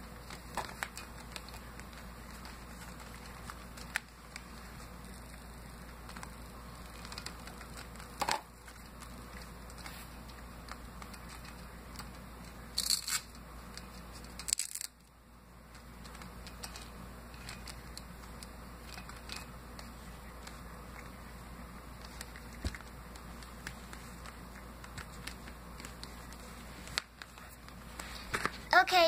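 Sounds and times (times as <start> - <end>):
toy being handled rustles and clicks: 0.0 - 29.0.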